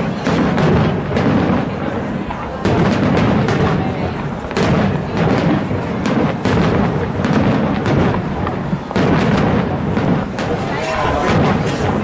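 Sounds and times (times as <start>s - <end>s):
firework shells bursting: 0.0s - 12.0s
fireworks crackling and rumble: 0.0s - 12.0s.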